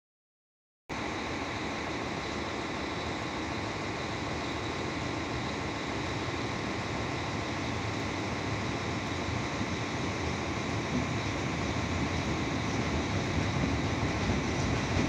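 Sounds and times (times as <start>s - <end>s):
diesel locomotive rumble: 0.9s - 15.0s.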